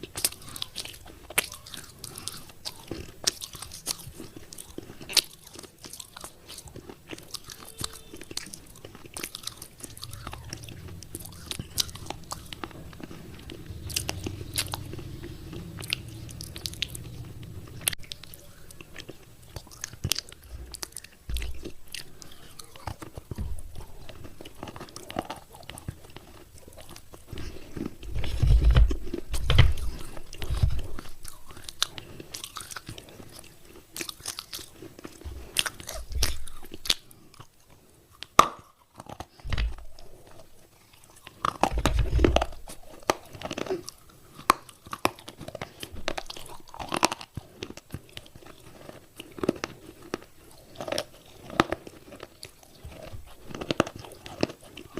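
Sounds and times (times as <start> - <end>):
muffled chewing: 0.0 - 54.9.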